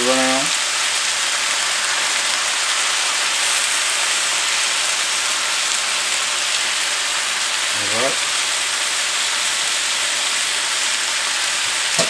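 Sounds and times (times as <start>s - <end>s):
sausages sizzling in a frying pan: 0.0s - 12.0s.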